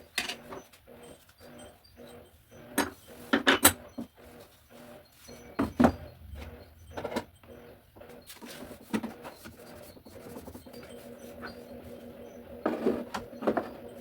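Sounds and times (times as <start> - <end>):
faint steady hum: 2.2 - 14.0.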